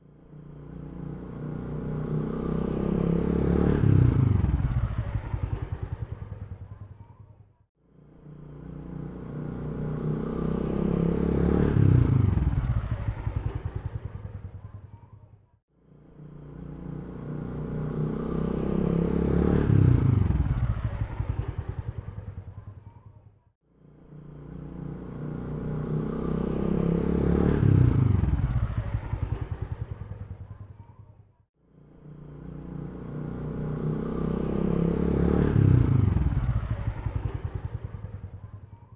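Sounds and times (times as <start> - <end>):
vehicle engine passing by: 0.2 - 6.9, 8.2 - 14.8, 15.9 - 23.0, 23.8 - 30.9, 31.7 - 38.9.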